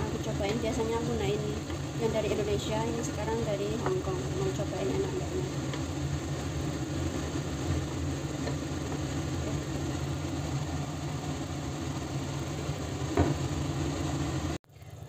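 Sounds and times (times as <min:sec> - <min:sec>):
induction hob humming: 0:00.0 - 0:15.0
curry simmering in a wok: 0:01.0 - 0:15.0.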